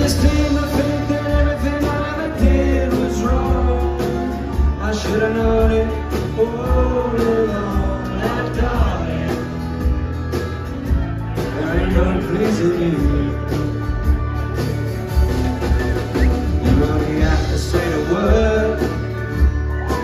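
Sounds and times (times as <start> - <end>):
man singing: 0.0 - 10.0, 11.3 - 14.2, 16.0 - 20.0
acoustic guitars: 0.0 - 20.0.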